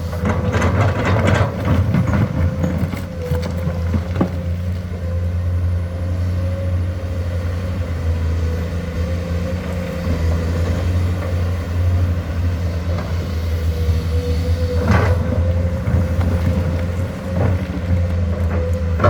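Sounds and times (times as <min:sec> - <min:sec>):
diesel excavator engine drone: 0:00.0 - 0:19.0.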